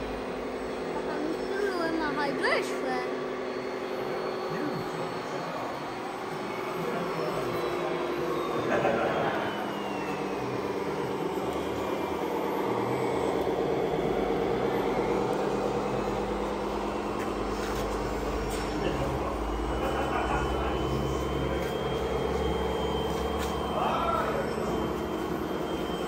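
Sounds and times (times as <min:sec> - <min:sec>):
high tone gliding down: 0:00.0 - 0:26.0
model motors and gears whining: 0:00.0 - 0:26.0.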